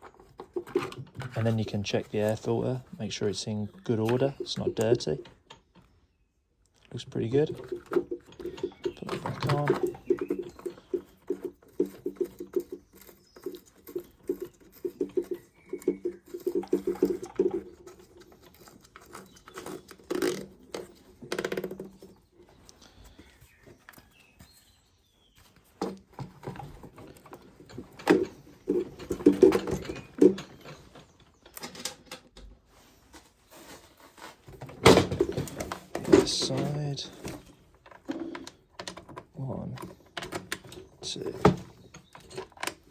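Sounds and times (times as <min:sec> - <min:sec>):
knocks and rattles: 0:00.0 - 0:05.9, 0:07.0 - 0:22.9, 0:25.6 - 0:32.8, 0:33.6 - 0:42.9.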